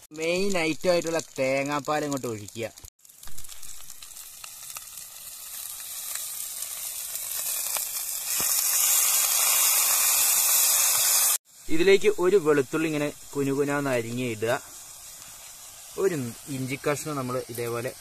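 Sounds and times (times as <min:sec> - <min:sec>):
liquid sizzling in hot pot: 0:00.0 - 0:18.0.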